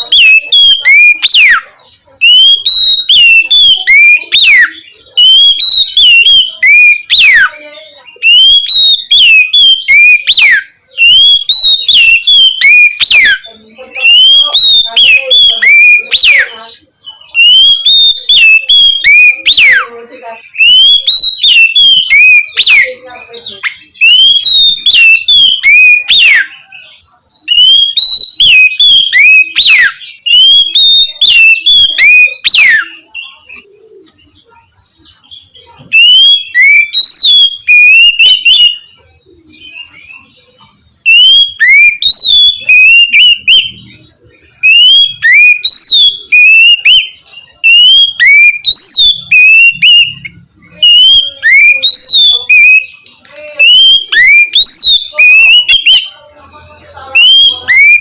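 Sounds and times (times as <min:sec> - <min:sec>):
bird singing whistled song: 0:00.0 - 0:58.0.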